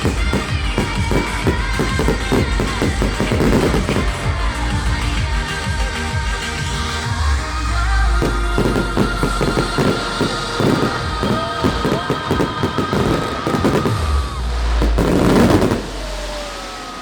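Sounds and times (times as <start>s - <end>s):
fireworks bangs and crackles: 0.0s - 17.0s
show music: 0.0s - 17.0s.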